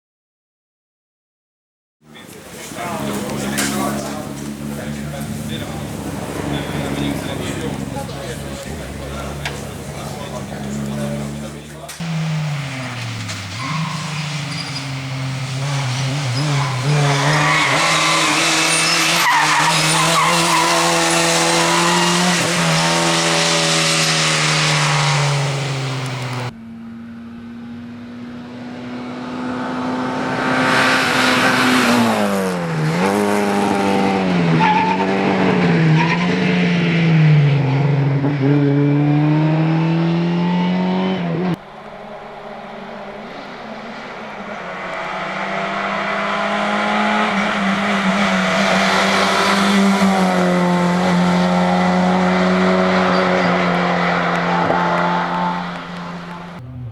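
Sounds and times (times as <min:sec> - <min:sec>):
rally car engine pulling hard: 0:02.1 - 0:26.5, 0:27.8 - 0:56.9.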